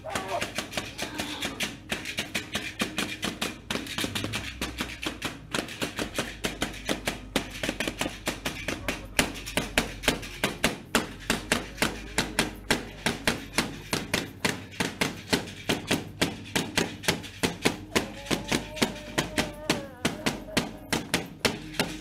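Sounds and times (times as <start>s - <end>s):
faint music: 0.0s - 22.0s.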